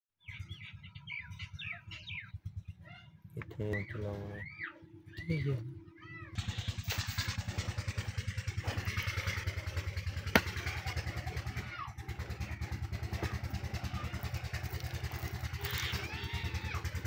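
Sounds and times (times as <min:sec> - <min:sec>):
engine idling with rapid thudding: 0:00.2 - 0:05.2, 0:06.3 - 0:17.0.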